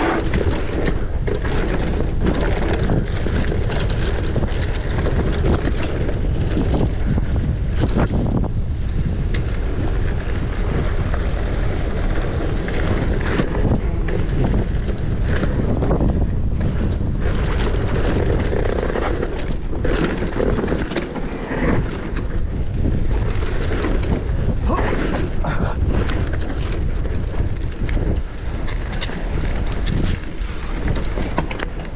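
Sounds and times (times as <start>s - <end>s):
bike clattering over bumps: 0.0s - 31.9s
tyres rolling on dirt trail: 0.0s - 31.9s
wind buffeting microphone: 0.0s - 31.9s.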